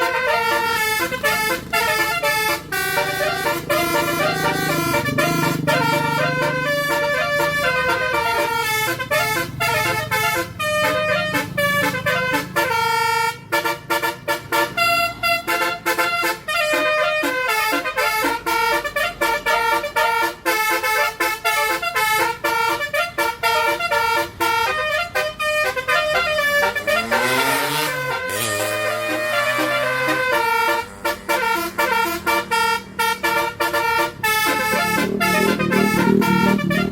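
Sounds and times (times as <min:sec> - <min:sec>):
multi-tone bus horn tune: 0:00.0 - 0:36.9.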